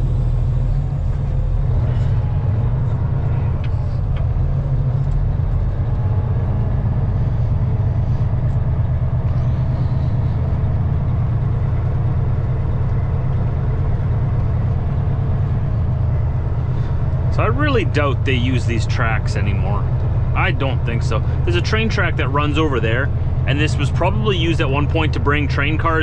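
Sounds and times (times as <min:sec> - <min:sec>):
diesel truck engine drone: 0:00.0 - 0:26.0.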